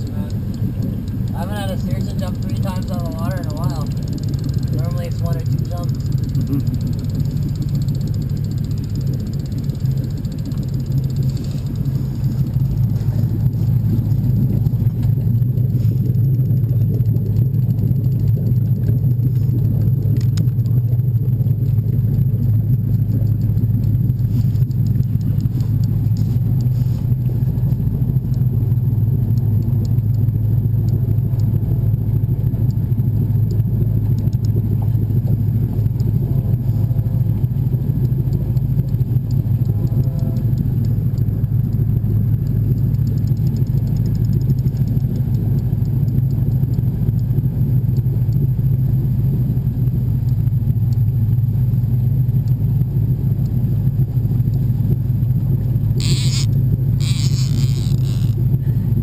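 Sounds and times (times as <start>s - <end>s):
boat motor rumbling: 0.0s - 59.0s.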